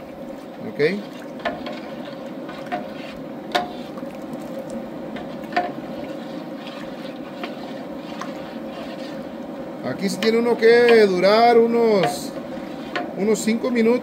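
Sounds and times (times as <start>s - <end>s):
metal ladle stirring thick liquid: 0.4s - 11.2s, 12.0s - 13.2s.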